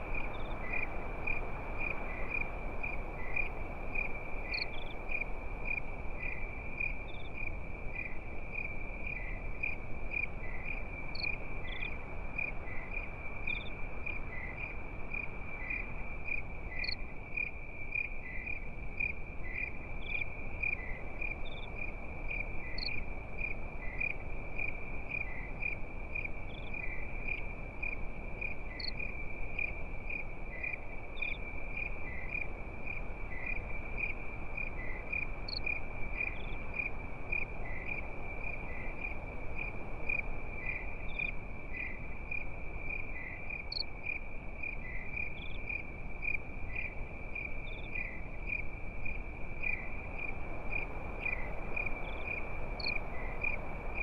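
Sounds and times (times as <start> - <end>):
crickets chirping: 0.0 - 54.0
low hiss: 0.0 - 54.0
high insect chirps: 0.1 - 54.0.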